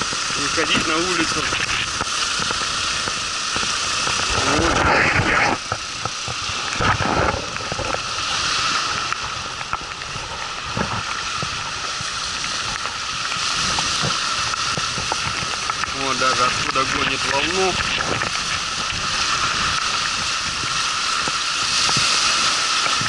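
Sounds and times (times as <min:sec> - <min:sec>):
waves breaking on shore: 0:00.0 - 0:23.0
wind buffeting microphone: 0:00.0 - 0:23.0.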